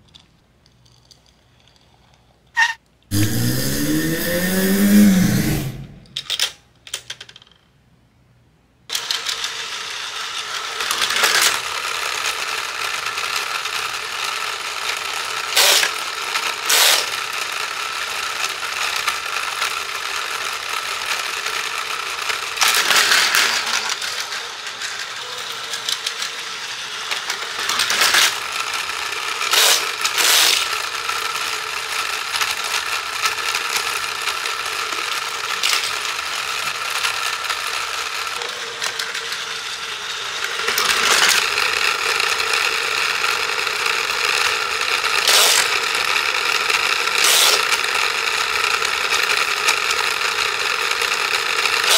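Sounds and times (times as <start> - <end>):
toy train gears whirring: 0.0 - 7.7, 8.9 - 51.9.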